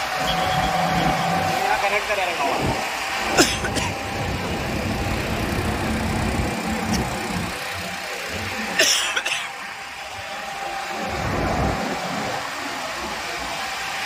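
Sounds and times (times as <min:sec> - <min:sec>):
engine running: 0:00.0 - 0:14.0
steady rushing noise: 0:00.0 - 0:14.0.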